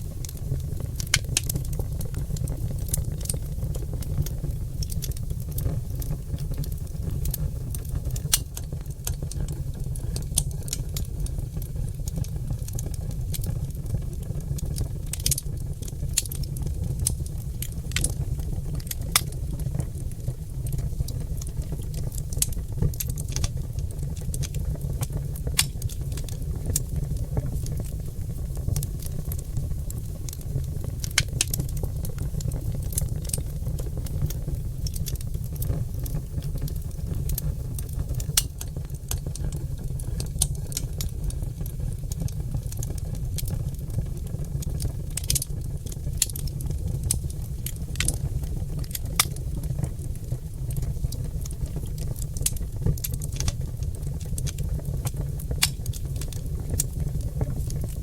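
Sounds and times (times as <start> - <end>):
log fire crackling and popping: 0.0 - 58.0
low rumble of flames: 0.0 - 58.0.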